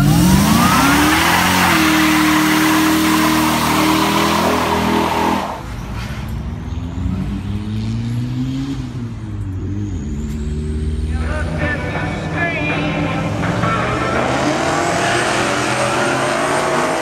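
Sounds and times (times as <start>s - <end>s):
engine at high revs: 0.0s - 5.6s, 7.0s - 11.1s, 13.0s - 17.0s
tires screeching on asphalt: 0.0s - 17.0s.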